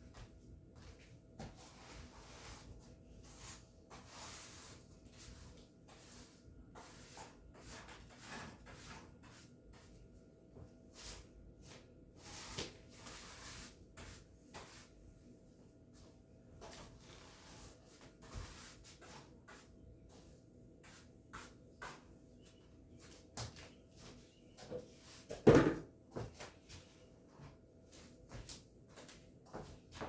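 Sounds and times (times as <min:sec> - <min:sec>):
broom sweeping floor: 0:00.0 - 0:30.0.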